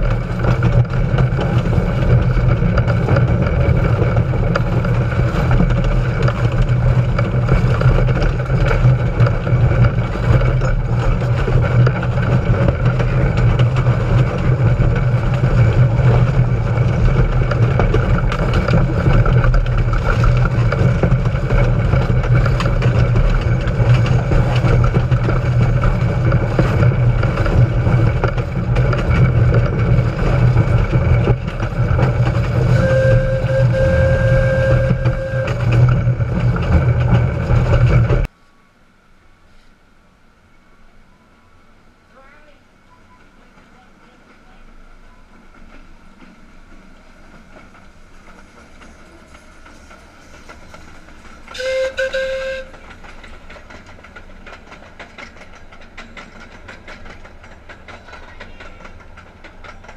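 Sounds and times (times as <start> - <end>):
steam locomotive low rumble: 0.0 - 59.9.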